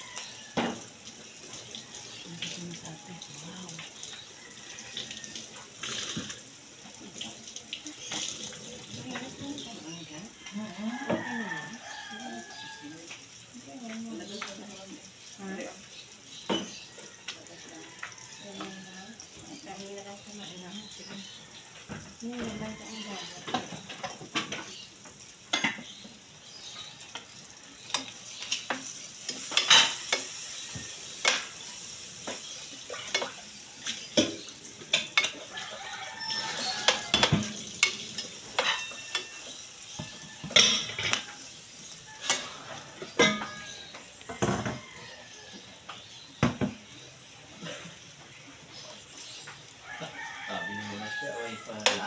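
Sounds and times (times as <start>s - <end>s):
meat sizzling in frying pan: 0.0s - 52.0s.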